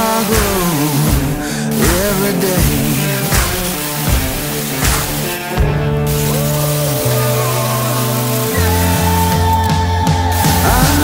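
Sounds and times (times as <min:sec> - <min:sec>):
melody over drum beat: 0:00.0 - 0:11.0.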